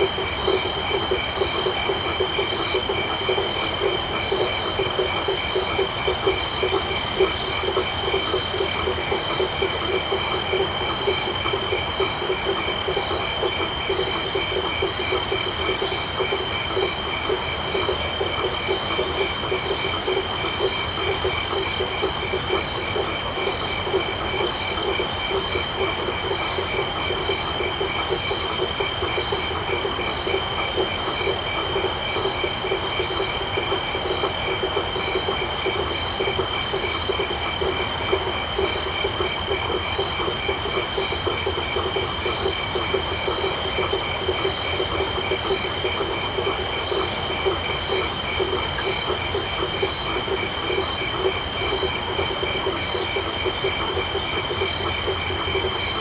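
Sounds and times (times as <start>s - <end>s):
crickets chirring: 0.0s - 56.0s
frogs trilling: 0.0s - 56.0s.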